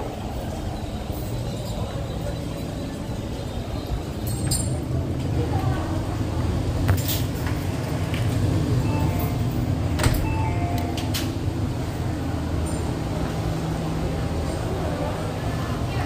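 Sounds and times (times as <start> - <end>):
train low hum: 0.0 - 16.0.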